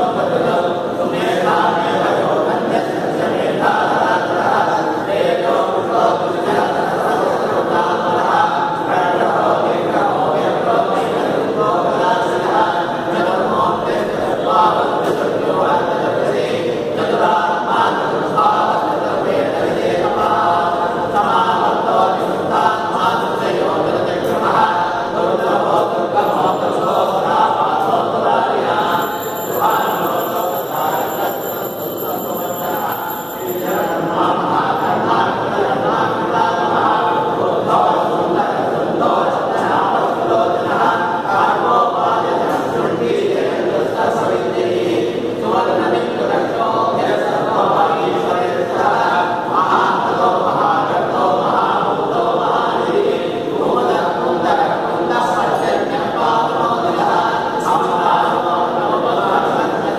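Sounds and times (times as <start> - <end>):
priests chanting in unison: 0.0 - 59.9.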